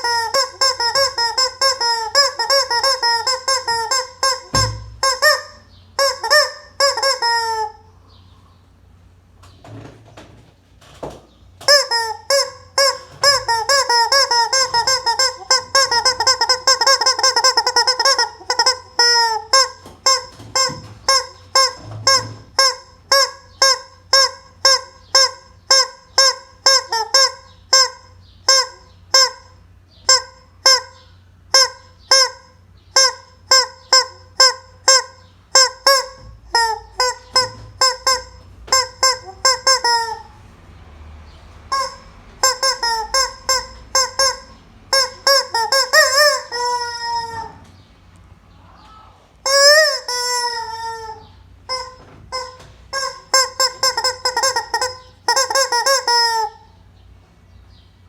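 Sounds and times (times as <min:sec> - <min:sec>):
chicken honking calls: 0:00.0 - 0:08.0, 0:11.6 - 0:40.6, 0:41.6 - 0:47.8, 0:48.6 - 0:56.9.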